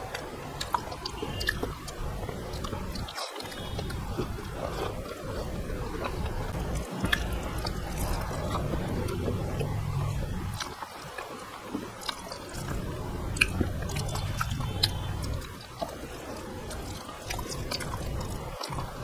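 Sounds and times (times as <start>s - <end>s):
close chewing: 0.0s - 19.0s.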